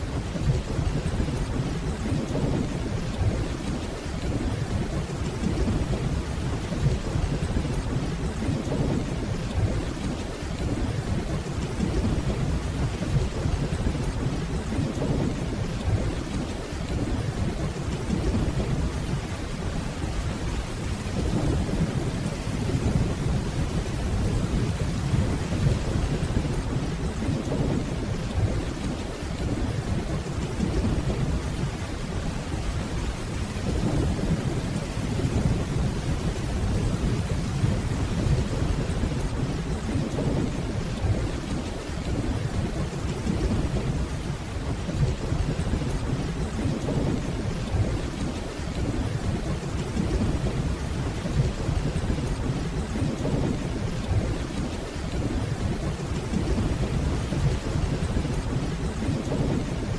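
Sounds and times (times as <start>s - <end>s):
rainfall: 0.0s - 59.9s
distant rolling thunder: 0.1s - 59.9s.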